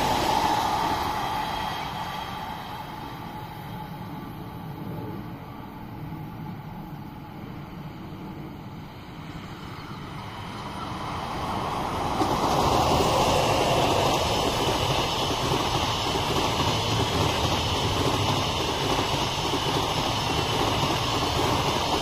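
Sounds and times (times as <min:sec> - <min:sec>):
train wheels rushing on rails: 0:00.0 - 0:22.0.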